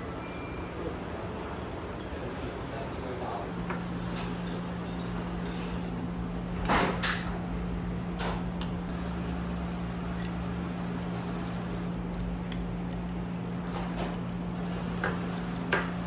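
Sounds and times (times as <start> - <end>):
steady low hum: 3.1 - 16.0.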